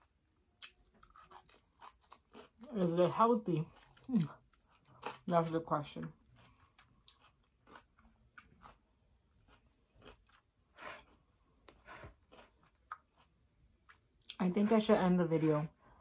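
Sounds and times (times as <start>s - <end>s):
person chewing food: 0.0s - 2.8s, 3.6s - 14.4s.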